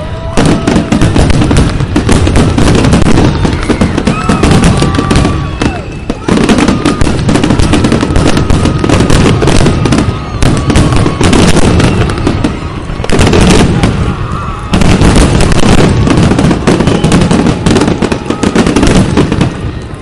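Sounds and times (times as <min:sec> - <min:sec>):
fireworks bursting and crackling: 0:00.0 - 0:20.0.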